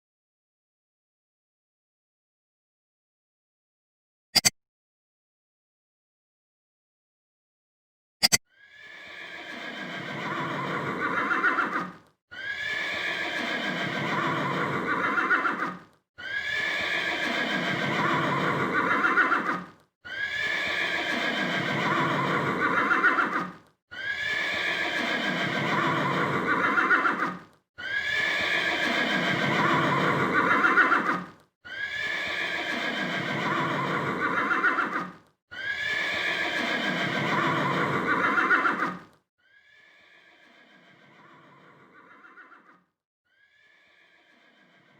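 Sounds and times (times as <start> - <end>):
horse whinnying: 8.6 - 44.9.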